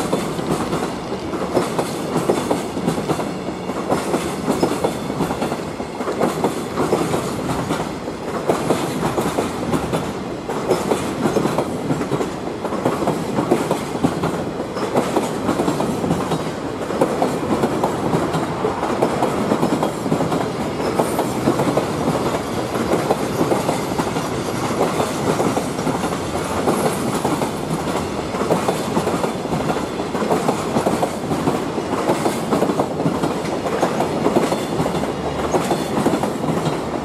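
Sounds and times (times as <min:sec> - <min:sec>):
train wheels clattering over rail joints: 0:00.0 - 0:37.0.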